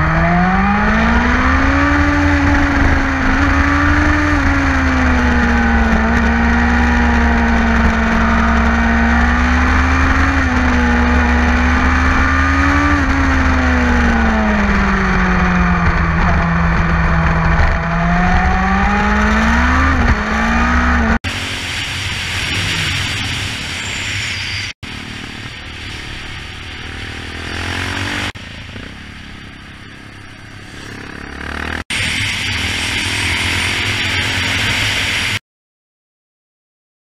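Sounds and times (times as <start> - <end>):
motorcycle engine running: 0.0 - 23.8, 24.8 - 35.4
wind and road rush: 0.0 - 35.4.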